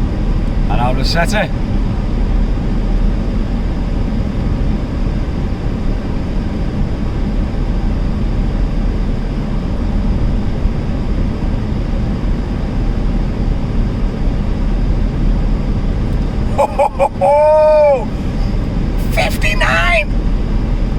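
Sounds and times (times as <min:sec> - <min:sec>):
in-cabin road and engine noise: 0:00.0 - 0:20.9.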